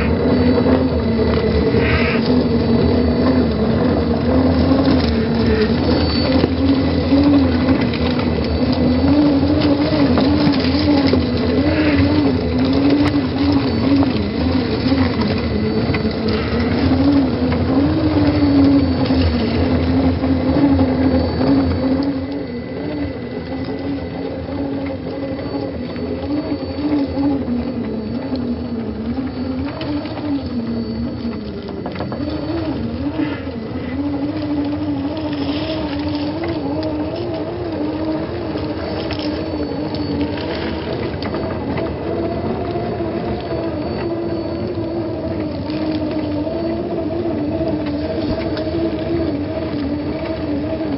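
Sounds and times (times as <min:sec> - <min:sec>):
rc car motor whining: 0:00.0 - 0:50.9.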